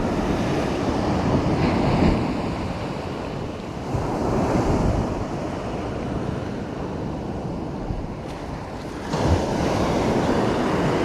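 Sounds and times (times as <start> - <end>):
ocean surf washing on a beach: 0.0 - 11.0
wind buffeting the microphone: 0.0 - 11.0.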